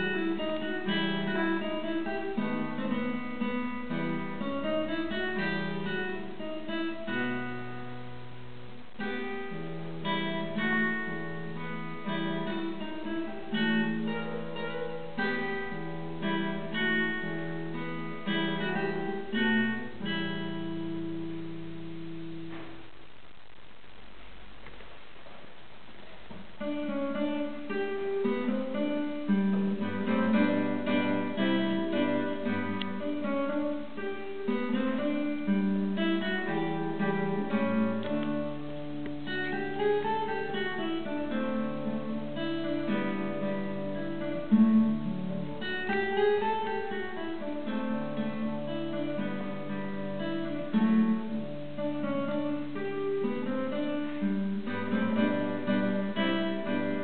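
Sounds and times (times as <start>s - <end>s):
solo classical guitar: 0.0s - 57.0s.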